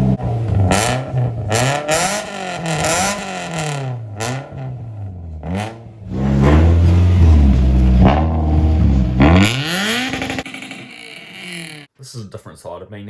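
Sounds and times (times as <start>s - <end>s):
car engine revving: 0.0s - 11.9s.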